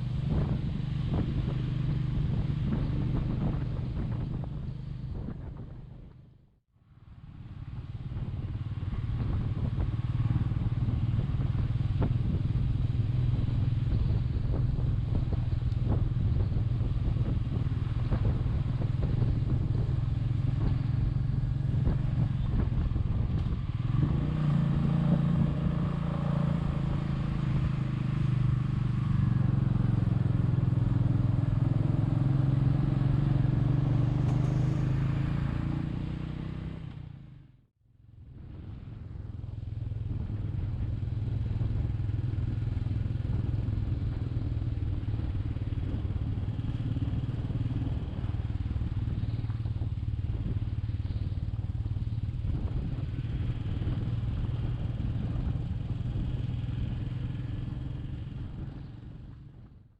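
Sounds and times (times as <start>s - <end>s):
motorcycle engine running: 0.0s - 6.4s, 7.2s - 59.9s.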